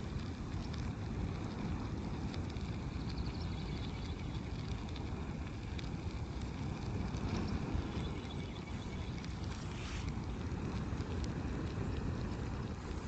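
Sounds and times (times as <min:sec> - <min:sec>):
fire crackling: 0:00.0 - 0:13.0
fire rushing: 0:00.0 - 0:13.0.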